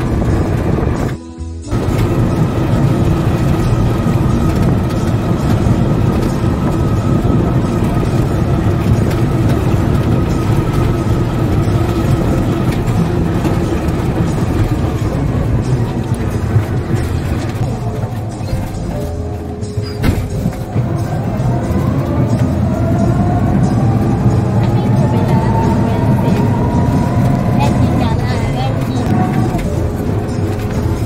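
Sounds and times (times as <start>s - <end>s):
road rumble: 0.0s - 31.0s
vehicle engine running: 0.0s - 31.0s.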